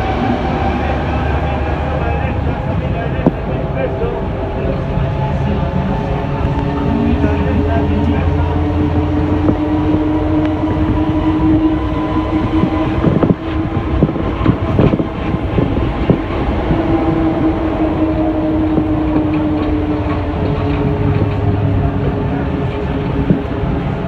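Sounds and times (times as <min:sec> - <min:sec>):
train whine and rumble: 0:00.0 - 0:24.0.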